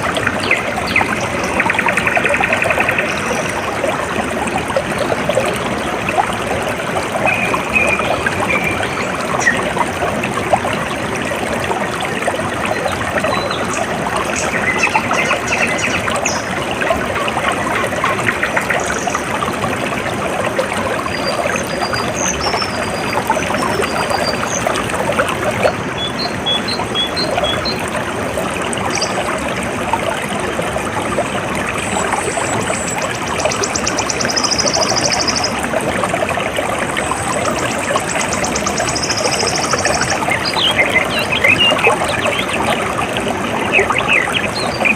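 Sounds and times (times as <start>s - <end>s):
water trickling and splashing: 0.0s - 44.9s.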